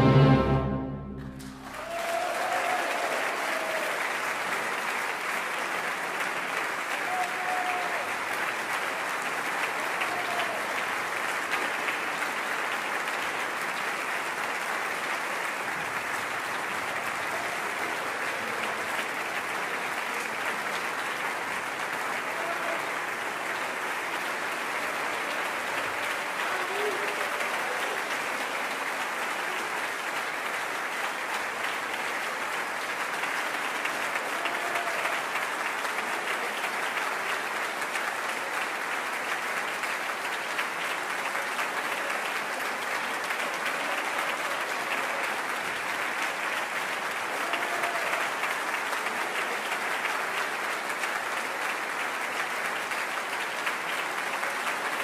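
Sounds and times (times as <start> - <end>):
large audience applauding: 0.0 - 55.0.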